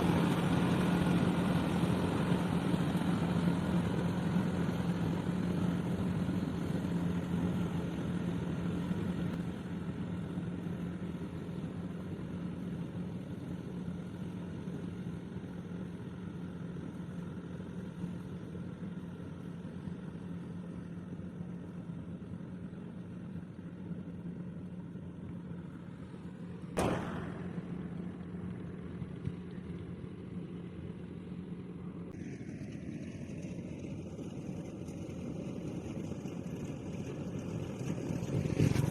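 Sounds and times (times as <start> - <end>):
harvester engine humming: 0.0 - 38.9.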